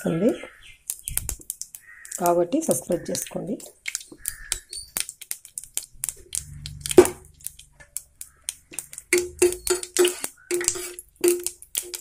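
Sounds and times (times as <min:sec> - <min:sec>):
seeds sputtering in hot oil: 0:00.7 - 0:12.0.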